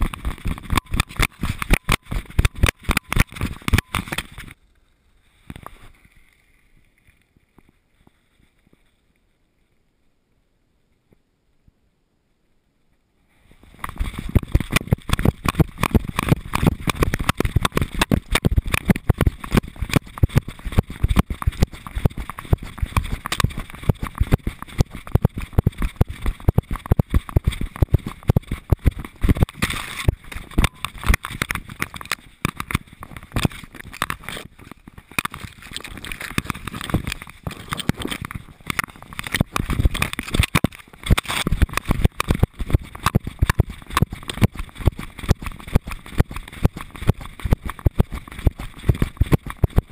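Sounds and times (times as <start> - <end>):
camera housing rattling: 0.0 - 4.5, 13.8 - 49.9.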